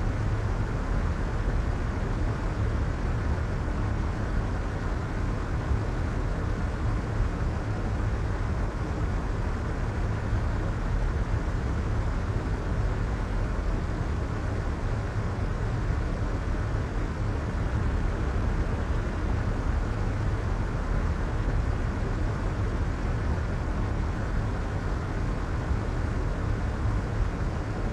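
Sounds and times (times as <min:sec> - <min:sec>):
deep muffled white noise: 0:00.0 - 0:27.9.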